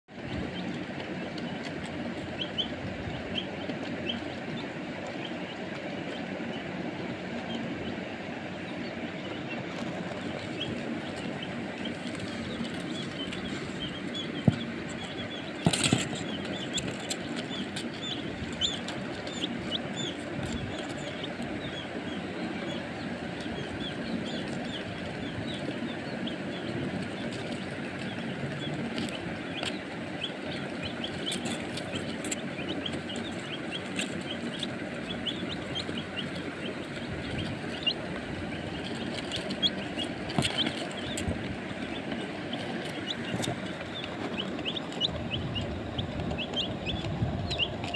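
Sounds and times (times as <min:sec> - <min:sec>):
chicks peeping: 0:00.1 - 0:47.9.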